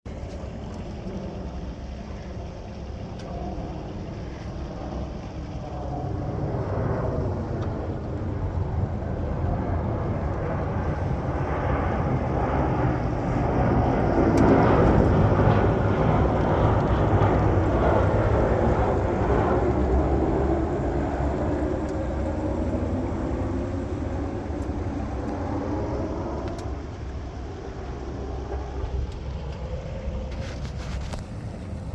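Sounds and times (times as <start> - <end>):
airplane engine rumble: 0.0 - 31.9.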